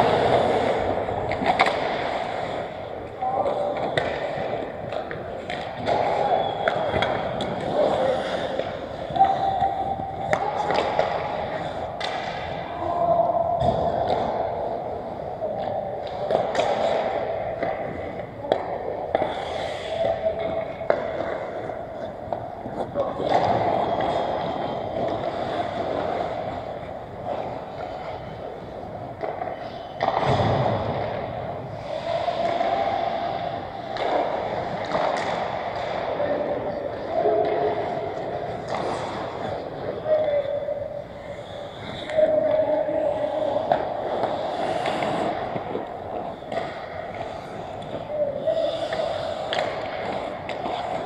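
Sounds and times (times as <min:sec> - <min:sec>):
skates scraping on ice: 0:00.0 - 0:12.9, 0:13.6 - 0:51.0
hockey sticks and puck clacking: 0:00.0 - 0:51.0.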